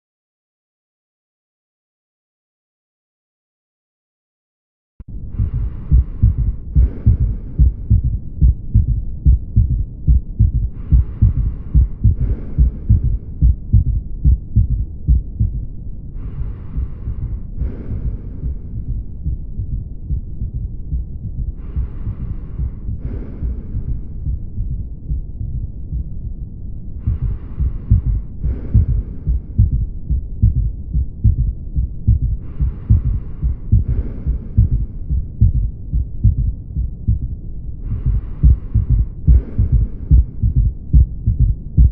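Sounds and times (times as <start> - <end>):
heartbeat thuds: 5.1 - 41.9.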